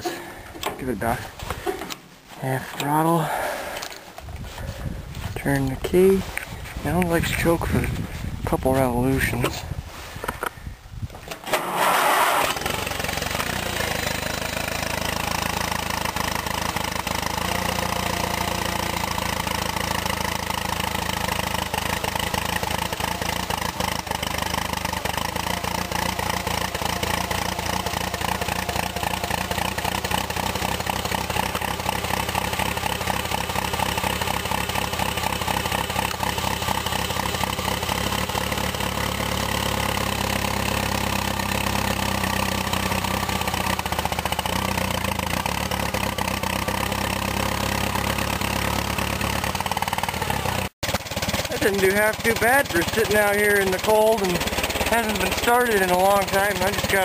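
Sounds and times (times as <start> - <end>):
tractor engine cranking: 0.0 - 4.7, 11.1 - 57.0
tractor engine running: 0.0 - 57.0.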